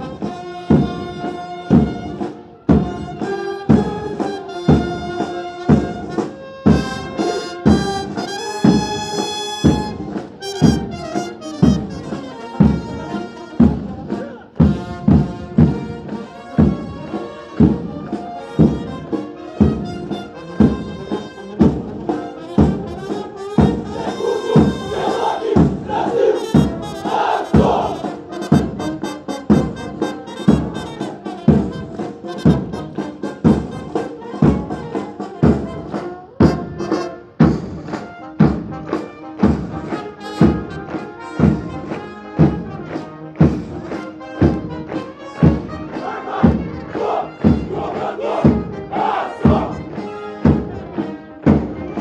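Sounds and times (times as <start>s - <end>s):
military march music: 0.0s - 52.0s.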